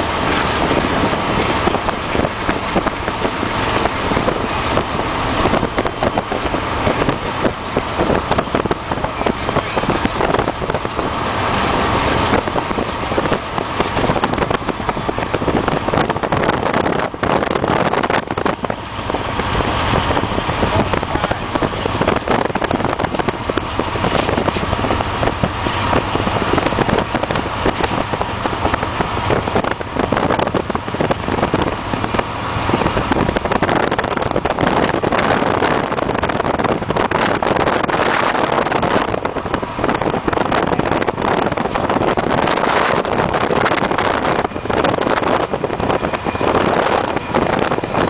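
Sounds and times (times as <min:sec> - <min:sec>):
car road noise: 0:00.0 - 0:48.0
wind buffeting microphone: 0:00.0 - 0:48.0.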